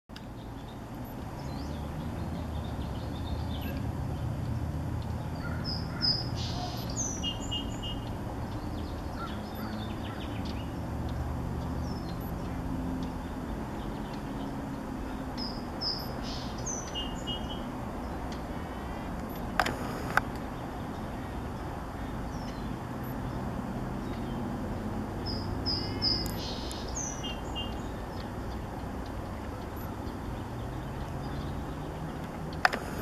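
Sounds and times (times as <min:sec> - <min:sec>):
birds chirping: 0:05.0 - 0:23.4, 0:24.0 - 0:33.0.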